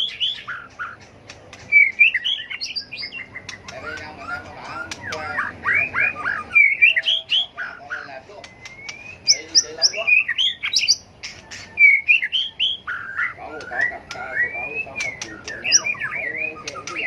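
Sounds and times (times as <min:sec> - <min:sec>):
sharp bird clicks: 0:00.0 - 0:07.1, 0:08.4 - 0:17.0
bird singing whistled trills: 0:00.0 - 0:17.0.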